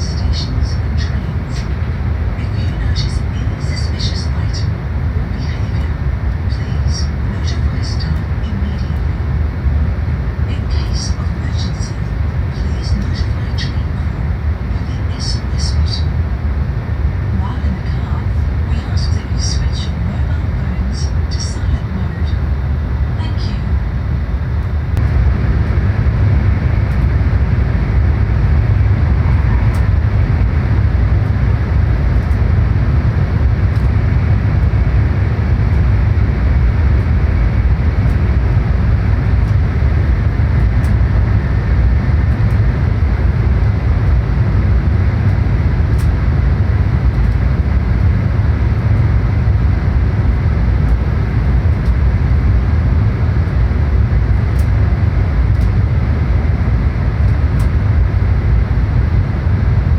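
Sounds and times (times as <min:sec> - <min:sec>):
train running at speed: 0:00.0 - 0:59.9.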